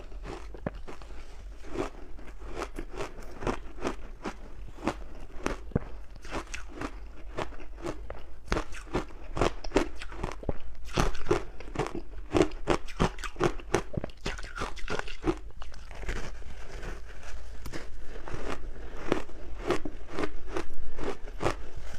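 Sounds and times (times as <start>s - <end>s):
crunchy ice chewing: 0.0s - 21.9s.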